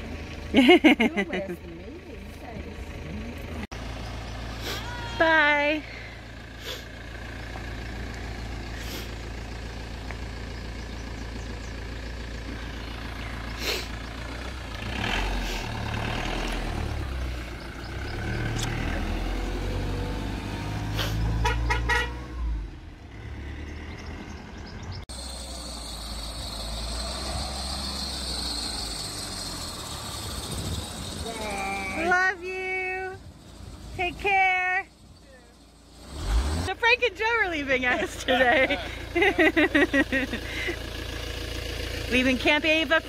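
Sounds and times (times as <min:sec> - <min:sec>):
diesel van engines running: 0:00.0 - 0:43.0.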